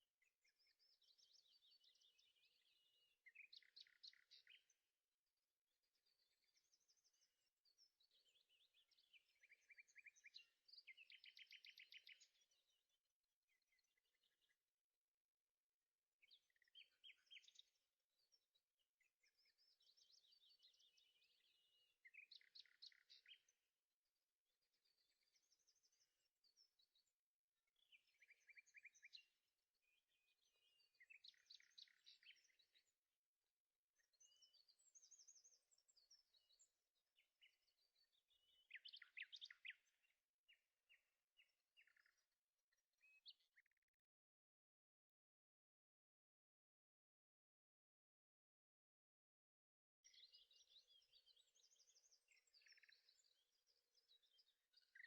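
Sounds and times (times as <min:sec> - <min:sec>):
faint birdsong chirping: 0:00.0 - 0:55.0.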